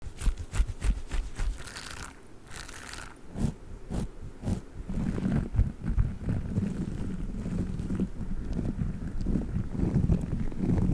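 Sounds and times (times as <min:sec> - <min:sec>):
rustling: 0:00.0 - 0:10.9.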